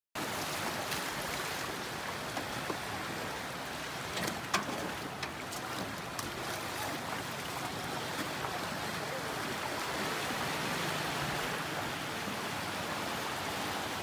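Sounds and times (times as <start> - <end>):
small waves washing on beach: 0.2 - 14.0.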